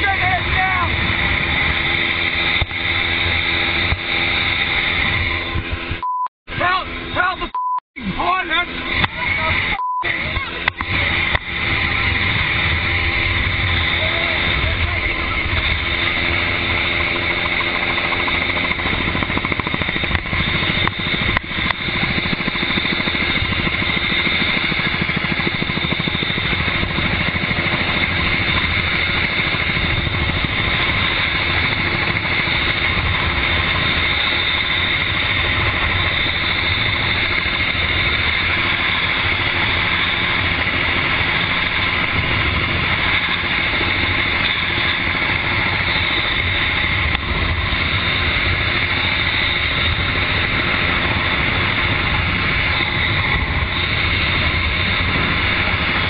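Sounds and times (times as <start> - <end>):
helicopter engine and rotor rush: 0.0 - 56.0
high whine: 0.0 - 56.0.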